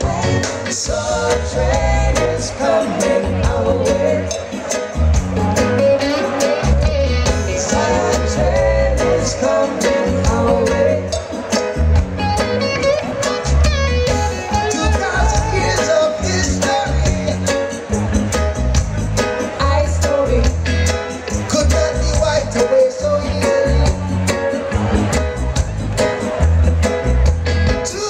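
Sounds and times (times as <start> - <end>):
drums: 0.0 - 28.0
electric guitar: 0.0 - 28.0
pulsing bass line: 0.0 - 28.0.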